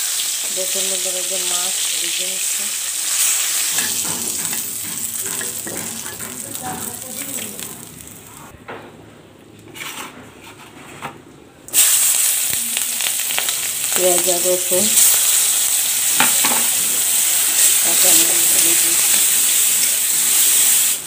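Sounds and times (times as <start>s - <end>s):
vegetables sizzling in hot oil: 0.0s - 8.5s, 11.7s - 21.0s.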